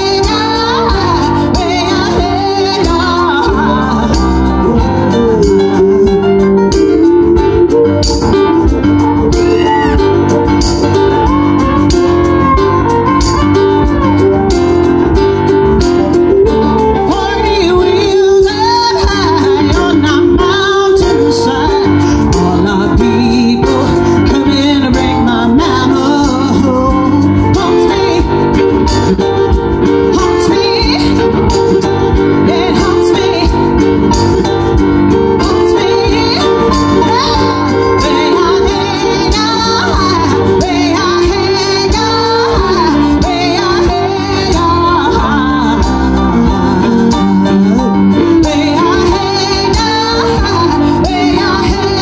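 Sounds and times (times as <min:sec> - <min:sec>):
woman singing: 0:00.0 - 0:14.5, 0:17.0 - 0:52.0
live band music: 0:00.0 - 0:52.0.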